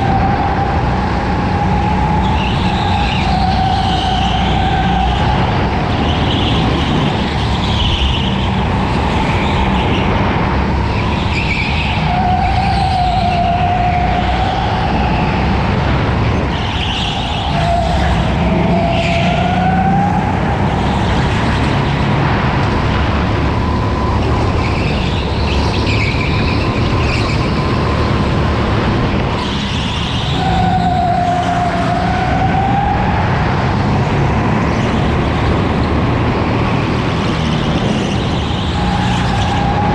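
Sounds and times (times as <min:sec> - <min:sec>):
go-kart engine whine: 0:00.0 - 0:39.9.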